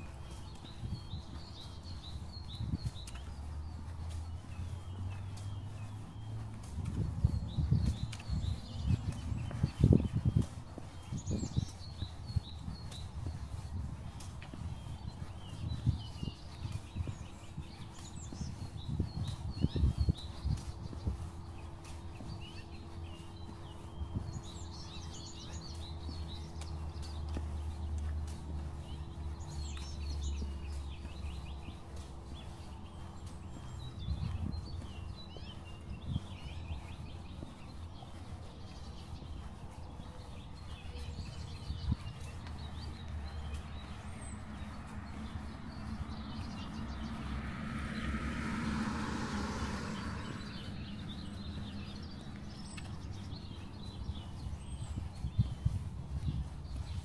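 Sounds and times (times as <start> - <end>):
low neighbourhood rumble: 0.0 - 57.0
passing vehicle: 0.0 - 57.0
songbirds chirping: 0.0 - 57.0.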